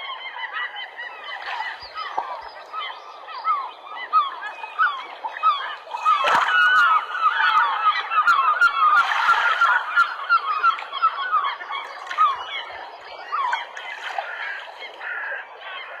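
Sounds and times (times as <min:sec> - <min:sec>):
waterbirds honking: 0:00.0 - 0:16.0.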